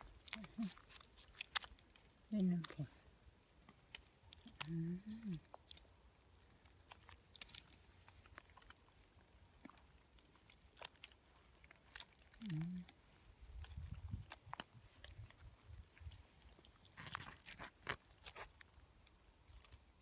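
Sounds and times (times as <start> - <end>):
frozen mushrooms crunching: 0.0 - 20.0.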